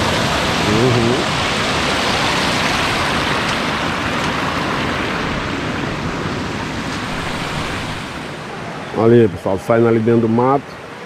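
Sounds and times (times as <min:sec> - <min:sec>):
waterfall and rapids rushing: 0:00.0 - 0:11.0.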